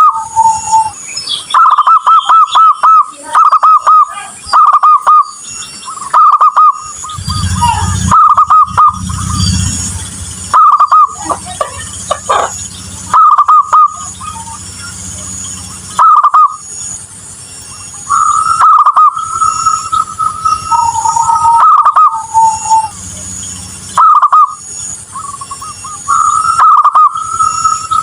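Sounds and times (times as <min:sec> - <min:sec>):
dove cooing: 0:00.0 - 0:01.0, 0:01.6 - 0:05.3, 0:05.9 - 0:16.6, 0:18.1 - 0:23.0, 0:24.0 - 0:24.6, 0:25.2 - 0:28.0.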